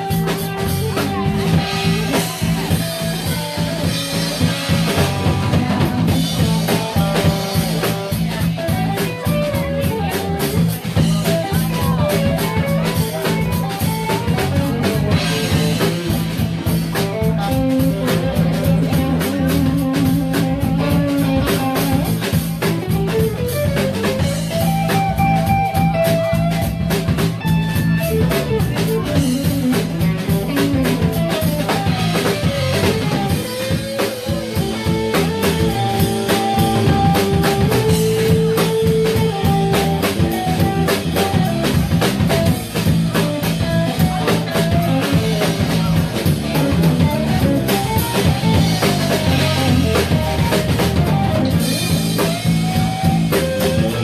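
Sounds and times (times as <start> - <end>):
drum kit with cymbals: 0.0 - 54.0
electric bass: 0.0 - 54.0
guitar: 0.0 - 54.0.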